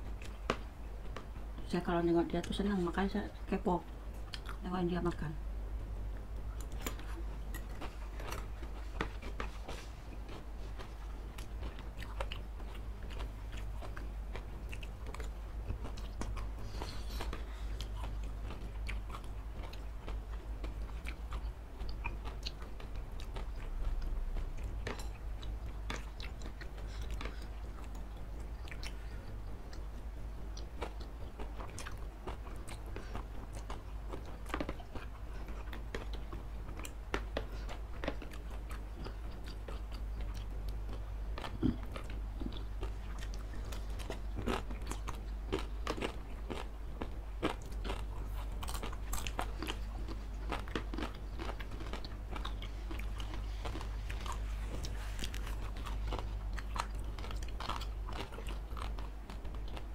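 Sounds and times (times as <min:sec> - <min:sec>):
steady low hum: 0:00.0 - 0:59.9
close-up chewing and biting: 0:06.3 - 0:59.9.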